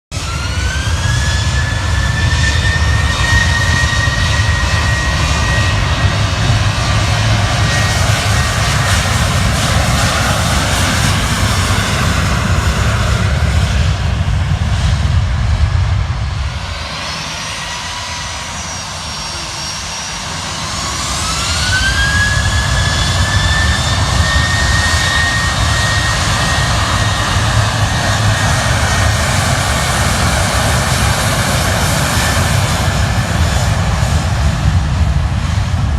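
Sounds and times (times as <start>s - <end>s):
jet engines rumbling and whining: 0.1s - 35.9s.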